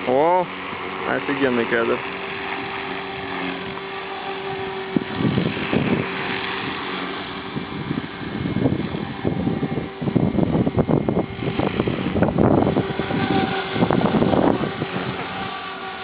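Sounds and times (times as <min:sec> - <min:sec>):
rc helicopter motor whine: 0:00.0 - 0:16.0
wind buffeting microphone: 0:00.0 - 0:16.0.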